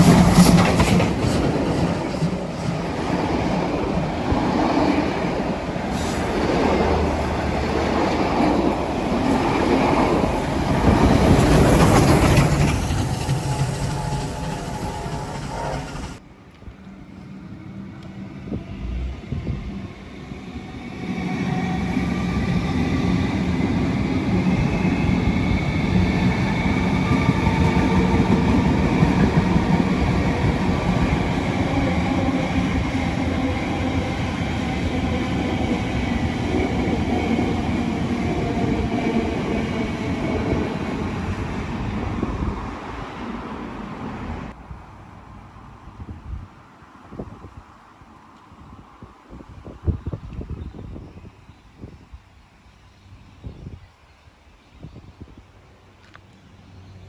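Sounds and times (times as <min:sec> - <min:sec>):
train rumbling on rails: 0:00.0 - 0:52.0.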